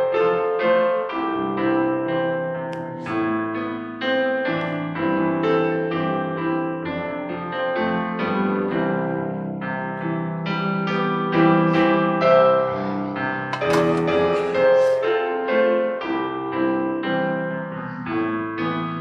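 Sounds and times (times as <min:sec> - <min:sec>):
piano melody over chords: 0:00.0 - 0:19.0.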